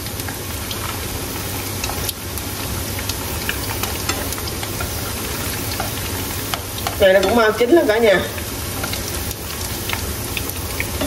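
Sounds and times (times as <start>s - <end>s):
patties sizzling in oil: 0.0s - 11.0s.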